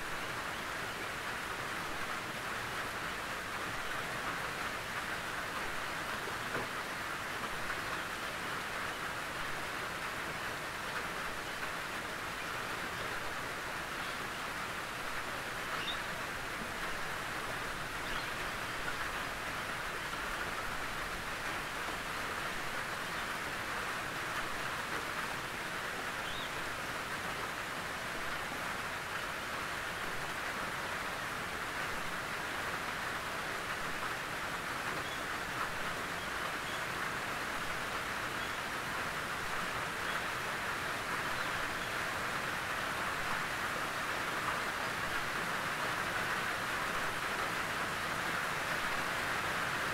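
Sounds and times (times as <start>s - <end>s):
rain on a tin roof: 0.0s - 49.9s.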